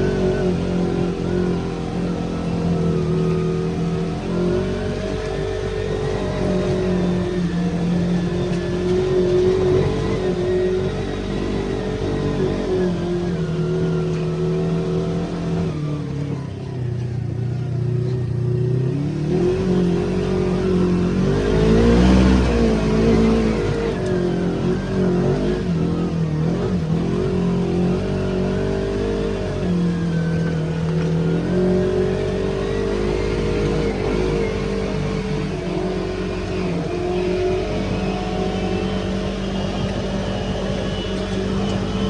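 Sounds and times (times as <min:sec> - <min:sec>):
vehicle engine revving: 0:00.0 - 0:42.0.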